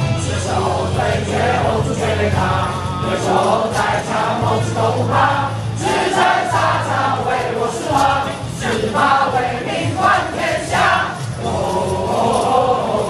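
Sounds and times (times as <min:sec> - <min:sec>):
crowd singing a cheer song: 0:00.0 - 0:13.0.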